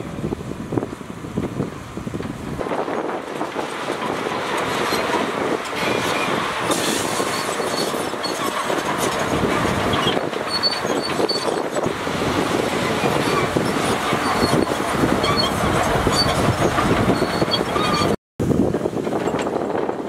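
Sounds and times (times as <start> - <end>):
bulldozer tracks clanking and squealing: 2.2 - 20.0.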